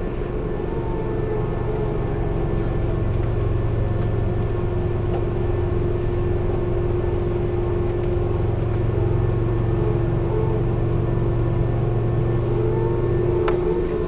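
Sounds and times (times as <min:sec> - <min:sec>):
electric train rumbling: 0:00.0 - 0:14.0
steady hum: 0:00.0 - 0:14.0.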